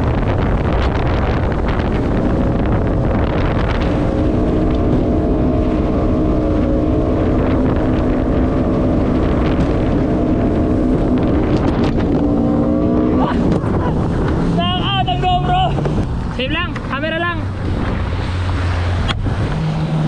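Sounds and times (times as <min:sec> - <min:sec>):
jet ski engine running: 0:00.0 - 0:20.0
wind on microphone: 0:00.0 - 0:20.0.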